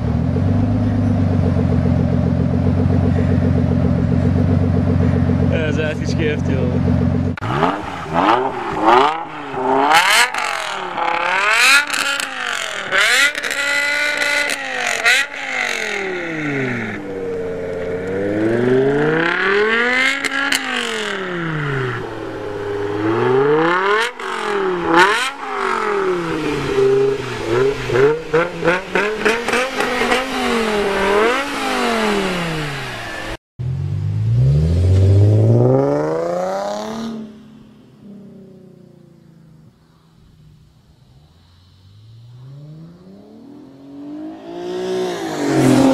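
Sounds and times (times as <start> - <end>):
car engine revving: 0.0 - 45.9
exhaust crackle: 0.0 - 45.9
second car engine revving: 0.0 - 45.9.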